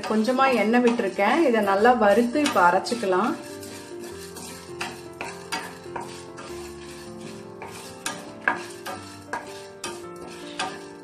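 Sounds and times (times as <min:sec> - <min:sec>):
background music: 0:00.0 - 0:11.0
spatula scraping a frying pan: 0:00.0 - 0:11.0.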